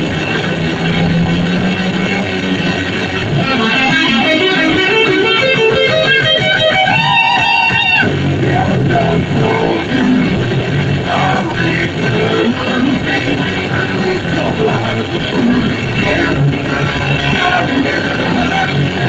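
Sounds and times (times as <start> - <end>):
rock band playing: 0.0 - 19.0
wavering guitar lead note: 0.0 - 19.0.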